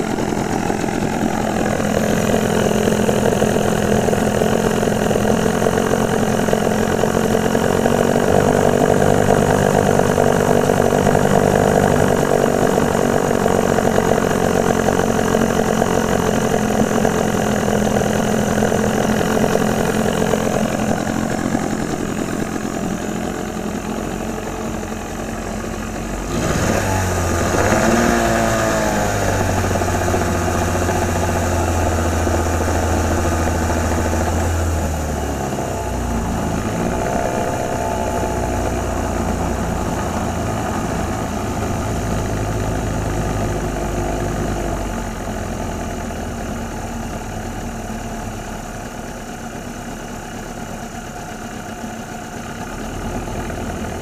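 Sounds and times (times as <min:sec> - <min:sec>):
outboard motor running: 0:00.0 - 0:54.0.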